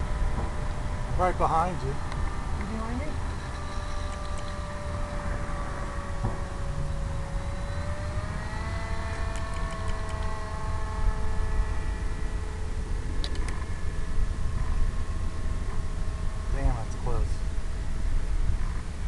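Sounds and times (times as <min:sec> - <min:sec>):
wind rumble on microphone: 0:00.0 - 0:19.0
electric model plane motor whine: 0:02.4 - 0:19.0.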